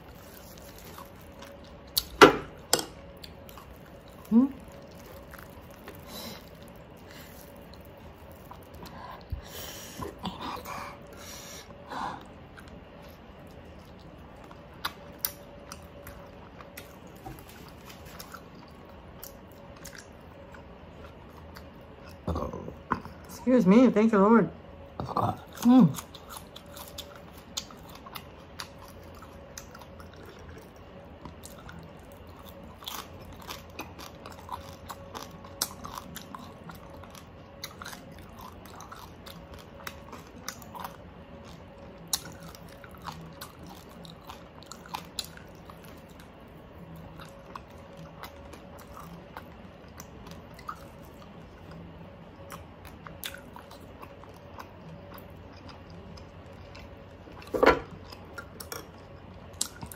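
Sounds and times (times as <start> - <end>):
food crunching: 0.0 - 9.5, 12.2 - 23.2, 25.2 - 59.9
person chewing: 0.0 - 23.2, 25.0 - 59.9.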